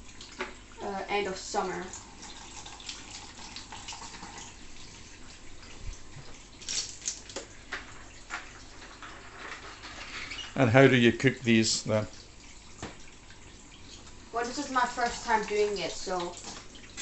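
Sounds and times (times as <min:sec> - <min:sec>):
light clicks and drips: 0:00.0 - 0:01.0, 0:01.6 - 0:10.7, 0:11.5 - 0:17.0
running splashing water: 0:00.0 - 0:17.0.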